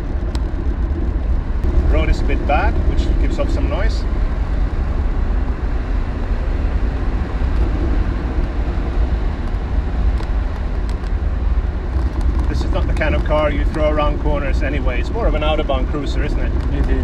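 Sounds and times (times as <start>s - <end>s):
car engine running: 0.0s - 17.0s
tyre and road noise: 0.0s - 17.0s.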